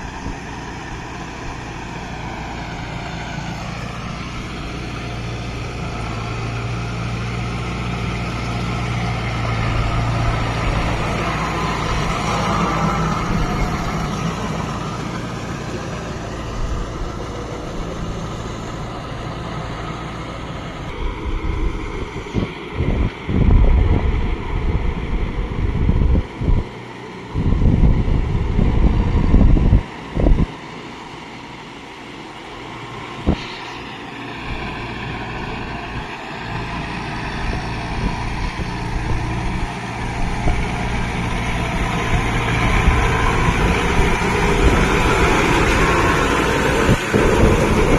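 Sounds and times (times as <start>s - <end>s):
low rumbles: 0.0s - 30.5s, 32.4s - 47.9s
tractor diesel engine running: 0.0s - 47.9s.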